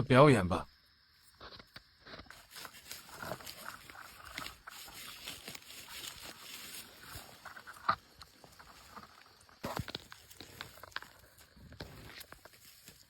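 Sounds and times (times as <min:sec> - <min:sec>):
rustling in dry leaf litter: 0:02.3 - 0:13.0.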